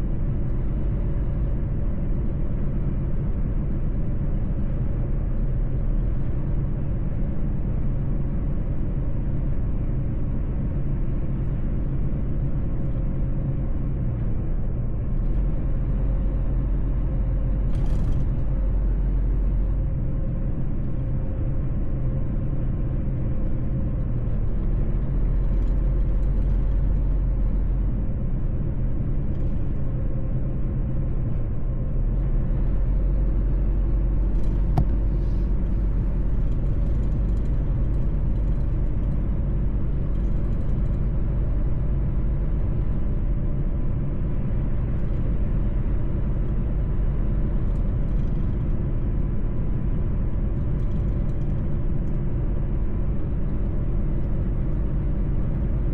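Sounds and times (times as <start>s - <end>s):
road rumble: 0.0s - 55.9s.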